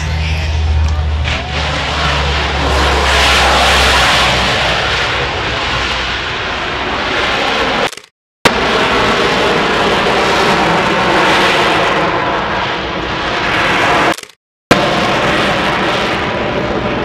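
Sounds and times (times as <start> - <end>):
broad rushing roar: 0.0 - 17.0
propeller drone: 0.0 - 17.0.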